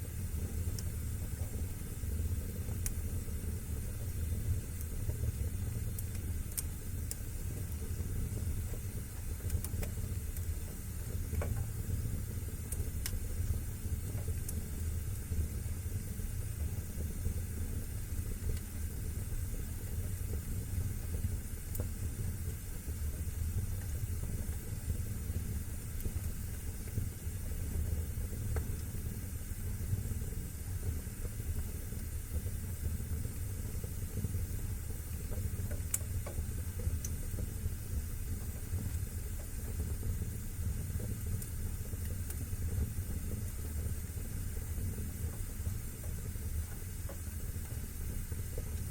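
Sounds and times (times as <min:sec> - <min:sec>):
fire crackling: 0:00.0 - 0:48.9
fire flames rumbling: 0:00.0 - 0:48.9.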